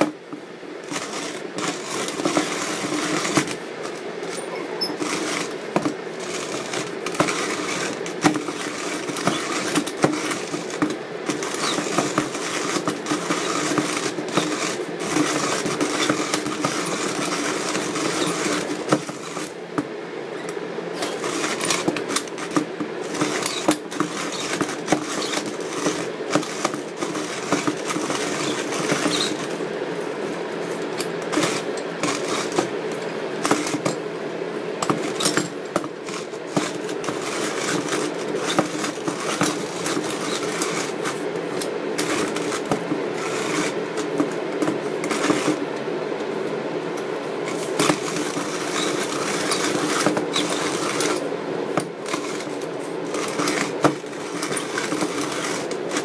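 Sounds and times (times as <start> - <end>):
hand coffee mill grinding beans: 0.0 - 34.1, 34.7 - 45.8, 47.0 - 56.0.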